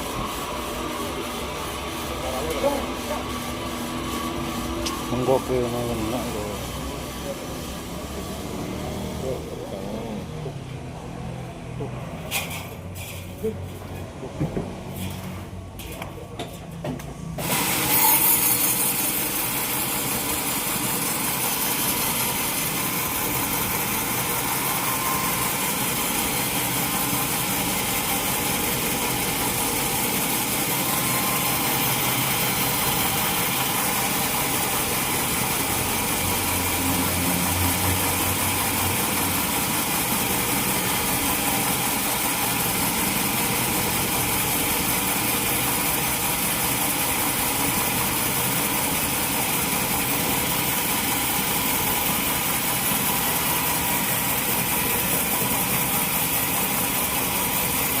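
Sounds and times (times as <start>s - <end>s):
saw cutting through log: 0.0s - 10.2s, 17.4s - 58.0s.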